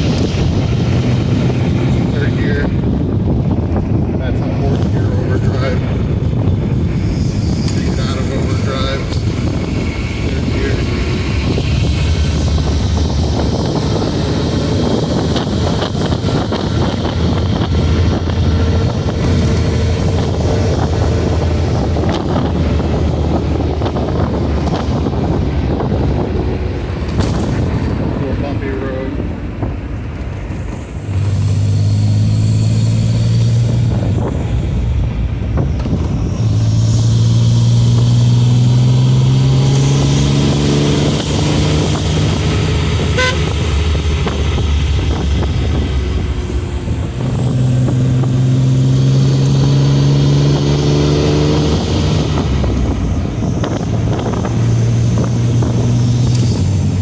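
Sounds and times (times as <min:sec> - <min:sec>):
car engine accelerating: 0:00.0 - 0:57.0
wind and road noise: 0:00.0 - 0:57.0.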